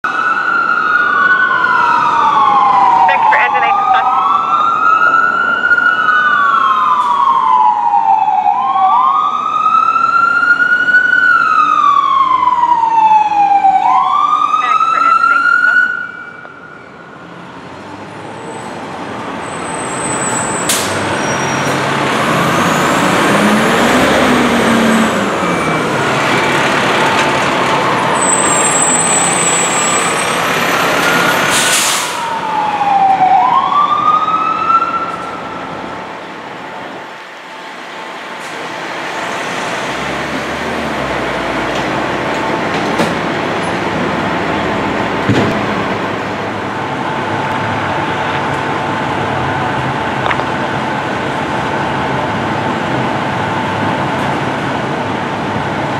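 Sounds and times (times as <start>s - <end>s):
fire truck sirens: 0.0s - 55.9s
heavy truck engines: 0.1s - 55.9s.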